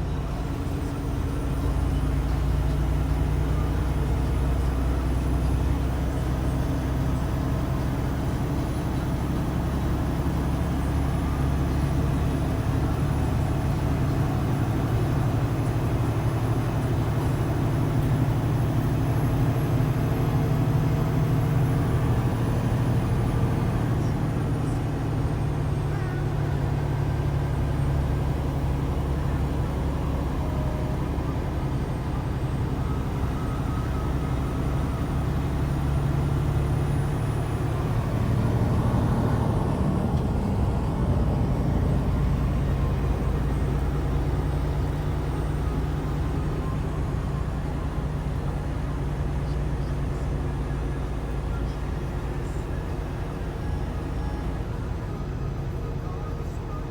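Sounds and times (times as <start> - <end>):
road noise: 0.0 - 56.9
truck engine running: 0.0 - 56.9.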